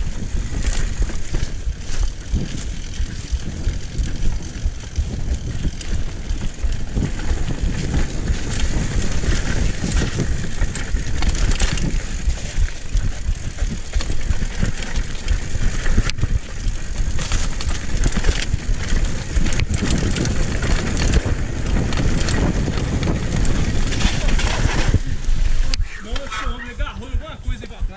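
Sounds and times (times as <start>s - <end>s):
bike rattling: 0.0s - 27.9s
tyres rumbling on dirt: 0.0s - 27.9s
wind buffeting microphone: 0.0s - 27.9s.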